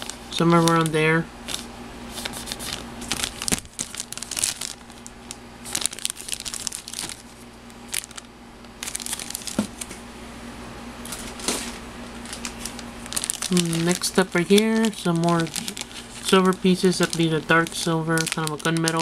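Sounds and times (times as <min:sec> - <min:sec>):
plastic bags crinkling: 0:00.0 - 0:10.0, 0:11.0 - 0:19.0.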